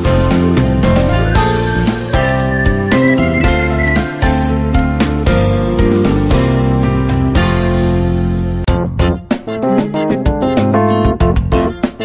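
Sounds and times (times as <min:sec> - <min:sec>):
instrumental music with guitar and keyboard: 0:00.0 - 0:12.0.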